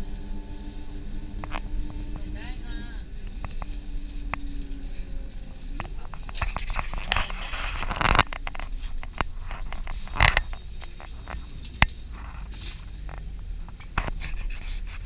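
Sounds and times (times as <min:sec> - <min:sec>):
bus engine rumble: 0:00.0 - 0:15.0
sharp rattles and clicks: 0:00.0 - 0:15.0.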